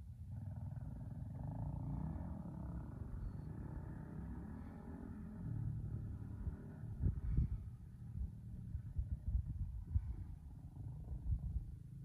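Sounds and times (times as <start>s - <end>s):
distant engine drone: 0.0s - 12.0s.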